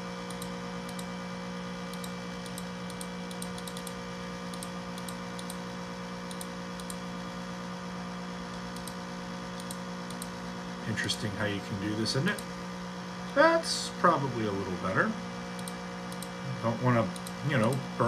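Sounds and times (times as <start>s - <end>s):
computer fan hum: 0.0s - 18.0s.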